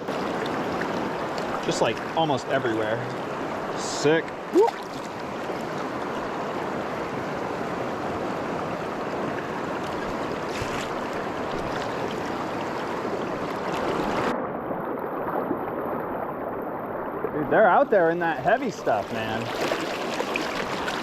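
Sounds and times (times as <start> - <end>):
fast river rushing: 0.0 - 14.4, 15.2 - 21.0.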